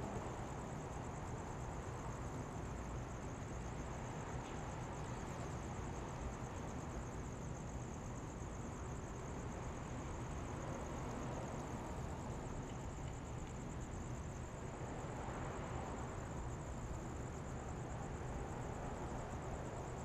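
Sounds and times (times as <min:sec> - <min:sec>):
distant city traffic hum: 0:00.0 - 0:20.0.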